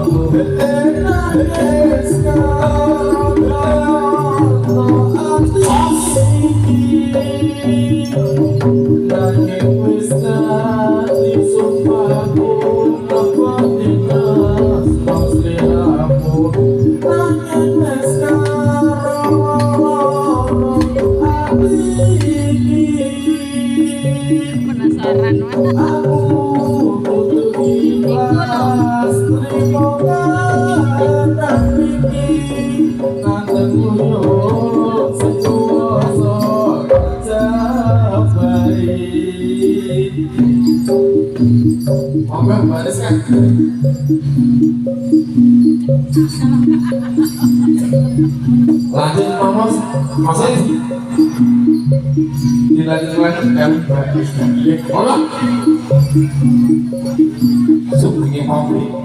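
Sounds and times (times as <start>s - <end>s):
electronic organ melody and bass: 0.0s - 59.0s
gamelan music: 0.0s - 59.0s
hand drums beating: 0.0s - 59.0s.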